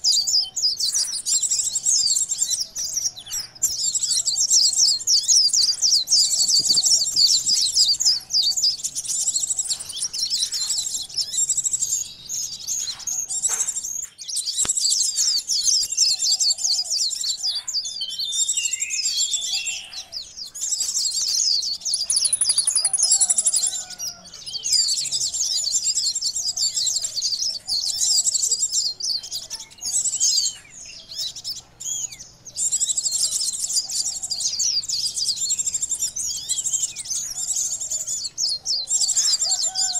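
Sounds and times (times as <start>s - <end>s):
sunbirds twittering: 0.0s - 39.9s.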